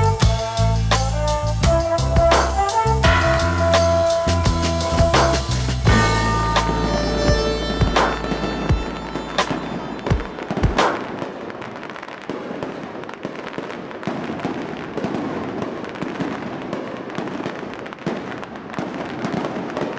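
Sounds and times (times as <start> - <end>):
fireworks crackling: 0.0 - 19.9.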